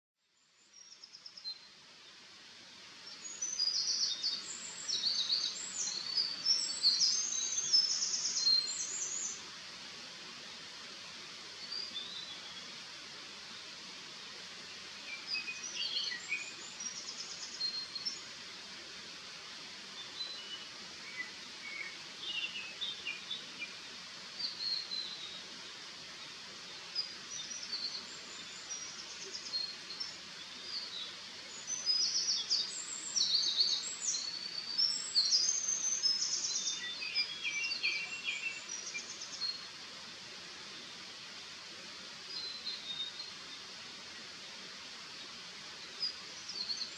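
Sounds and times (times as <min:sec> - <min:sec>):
steady background hiss: 0:00.3 - 0:46.9.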